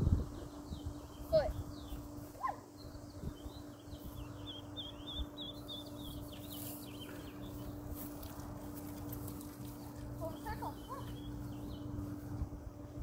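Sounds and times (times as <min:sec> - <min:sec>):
small birds chirping: 0:00.0 - 0:12.3
faint steady hum: 0:00.0 - 0:13.0.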